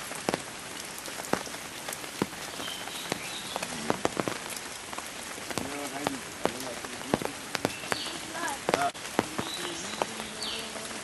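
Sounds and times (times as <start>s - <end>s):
sharp taps of raindrops: 0.0s - 11.0s
steady rain hiss: 0.0s - 11.0s.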